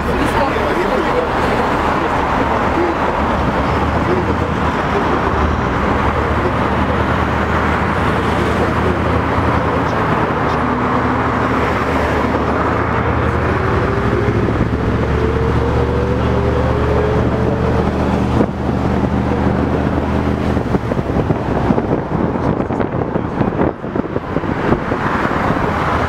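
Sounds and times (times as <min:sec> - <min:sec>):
bus engine whining: 0:00.0 - 0:26.0
road noise: 0:00.0 - 0:26.0.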